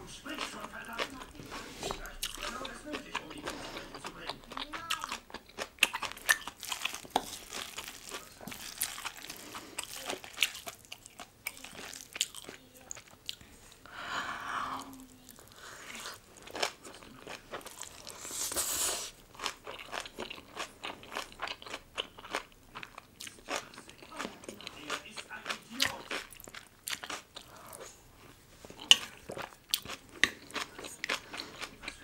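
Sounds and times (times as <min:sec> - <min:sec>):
chewing and crisp crunching: 0:00.0 - 0:13.8, 0:14.8 - 0:32.0.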